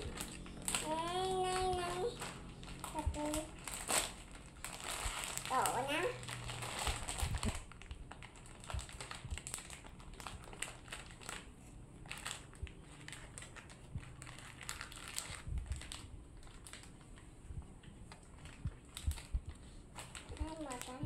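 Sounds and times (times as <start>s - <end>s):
plastic and foil packs crinkling: 0.0s - 17.3s, 17.9s - 21.0s.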